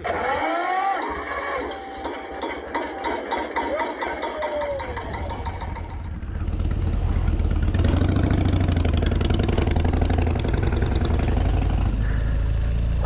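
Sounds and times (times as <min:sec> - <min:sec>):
motorcycle engine running: 0:01.0 - 0:13.0.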